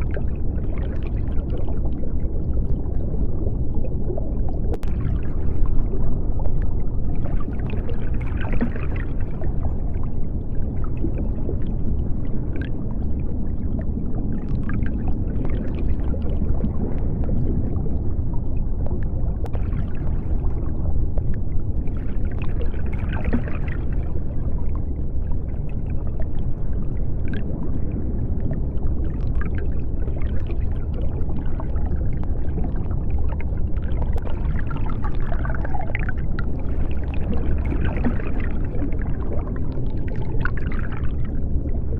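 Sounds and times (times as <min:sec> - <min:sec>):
deep underwater rumble: 0:00.0 - 0:41.9
water gurgling and bubbling: 0:00.0 - 0:41.9.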